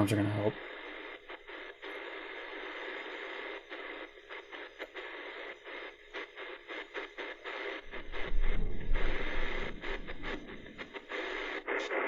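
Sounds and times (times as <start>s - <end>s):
radio shortwave static hiss: 0.0s - 12.0s.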